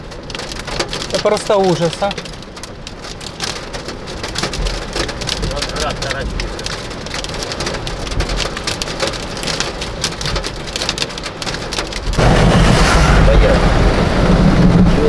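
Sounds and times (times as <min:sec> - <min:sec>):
heavy rain on a car: 0:00.0 - 0:15.0.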